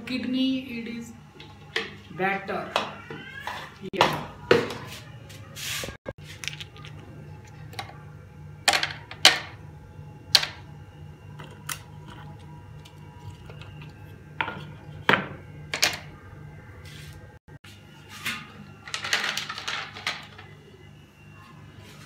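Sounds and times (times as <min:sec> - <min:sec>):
steady low hum: 0:04.2 - 0:22.0.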